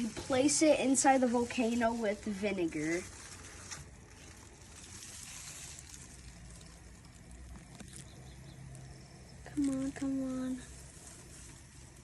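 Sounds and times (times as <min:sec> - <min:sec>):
baking soda fizzing with vinegar: 0:00.0 - 0:12.0.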